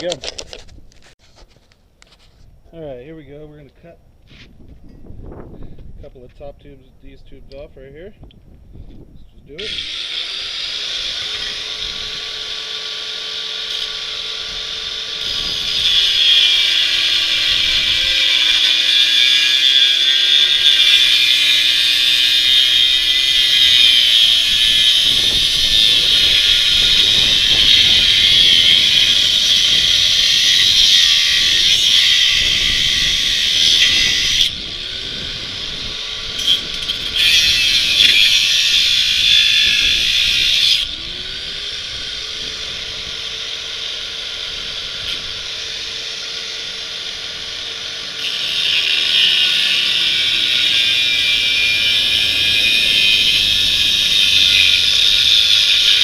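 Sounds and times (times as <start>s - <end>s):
angle grinder cutting steel: 9.6s - 56.0s.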